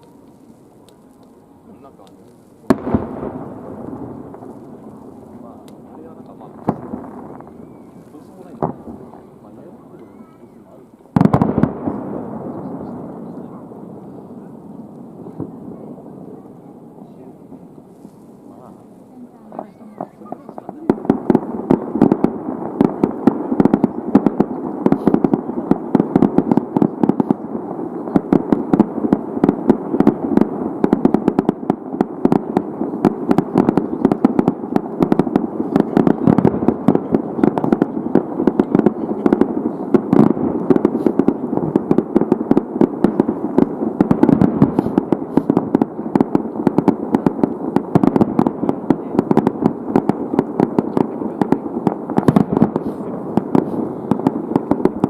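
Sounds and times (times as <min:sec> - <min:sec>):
fireworks bangs and crackle: 0:00.0 - 0:55.0.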